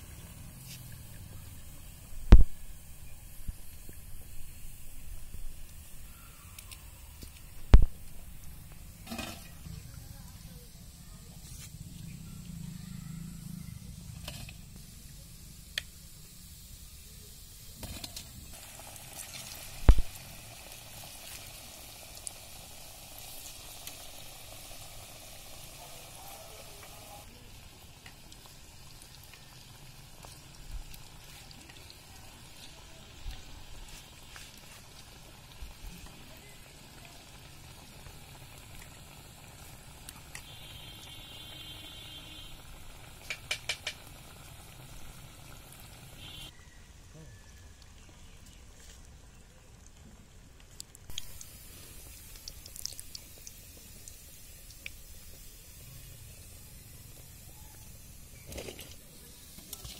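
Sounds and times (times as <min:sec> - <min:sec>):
deep-frying sizzle in oil: 0:00.0 - 0:49.2, 0:51.1 - 0:59.9.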